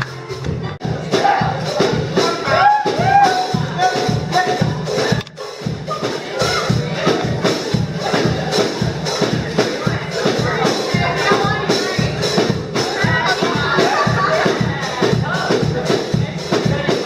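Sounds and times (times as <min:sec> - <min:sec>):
hand percussion beating: 0:00.0 - 0:17.0.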